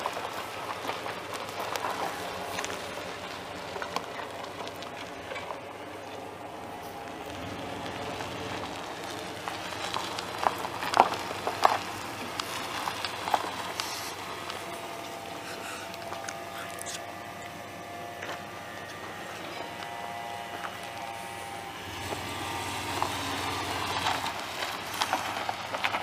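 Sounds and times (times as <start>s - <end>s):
pickup engine running: 0.0s - 26.0s.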